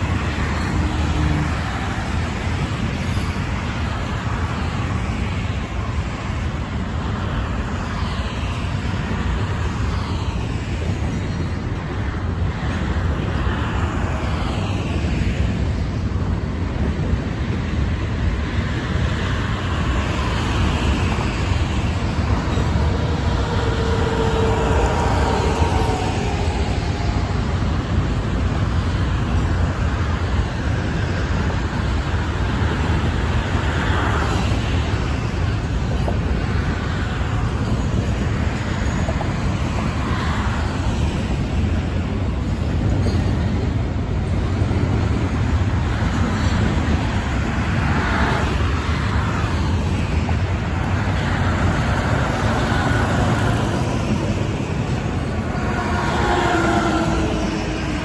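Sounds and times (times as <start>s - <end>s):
cars passing close by: 0.0s - 58.0s
highway traffic roar: 0.0s - 58.0s.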